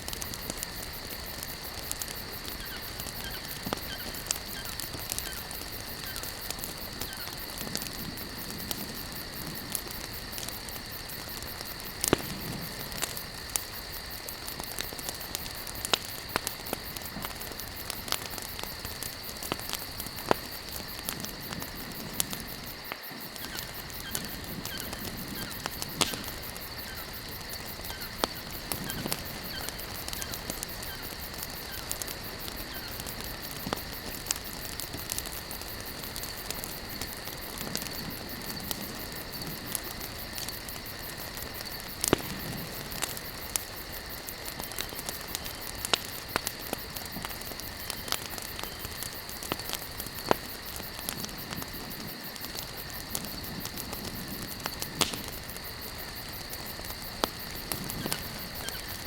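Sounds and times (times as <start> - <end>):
campfire crackling and popping: 0.0 - 59.0
insect chirring: 0.0 - 59.0.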